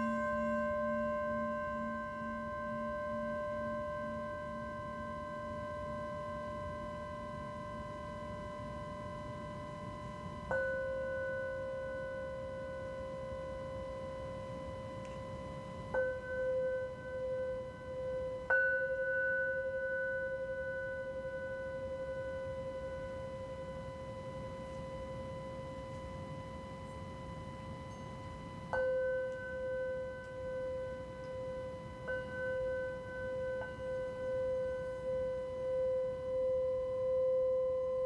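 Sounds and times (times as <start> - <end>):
singing bowl ringing: 0.0 - 38.0.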